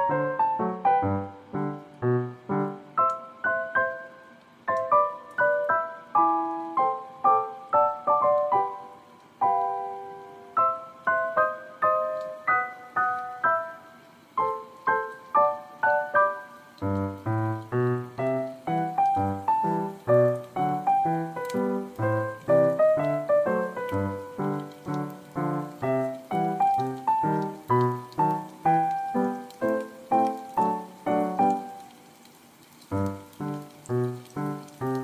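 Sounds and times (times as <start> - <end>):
piano music: 0.0 - 32.1, 32.8 - 35.0.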